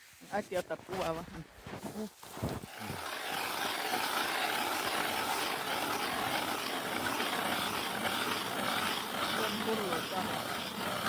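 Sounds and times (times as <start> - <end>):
ice auger drilling through ice: 0.3 - 11.0.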